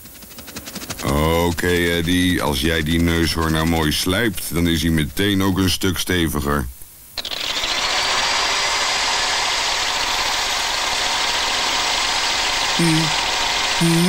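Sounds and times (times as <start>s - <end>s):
cartoon gnawing grind: 0.1s - 5.4s, 7.2s - 14.0s.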